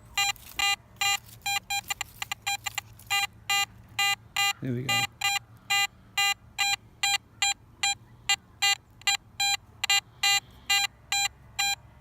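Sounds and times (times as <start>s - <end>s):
metal detector short beeps: 0.1s - 8.0s, 8.6s - 11.8s.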